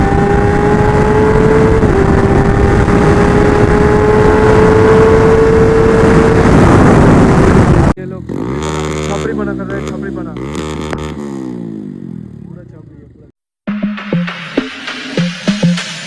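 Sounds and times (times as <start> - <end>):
wind and road noise: 0.0 - 13.2
motorcycle engine at high revs: 0.0 - 13.3.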